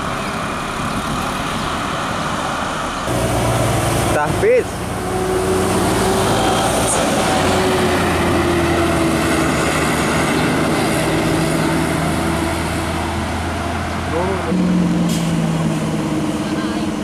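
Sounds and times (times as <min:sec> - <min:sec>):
bus diesel engine passing: 0:00.0 - 0:17.0.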